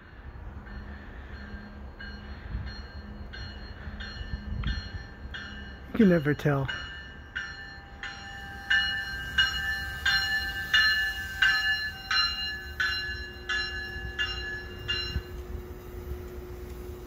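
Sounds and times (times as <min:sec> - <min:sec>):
low train rumble: 0:00.0 - 0:17.0
train warning bell ringing: 0:00.0 - 0:17.0.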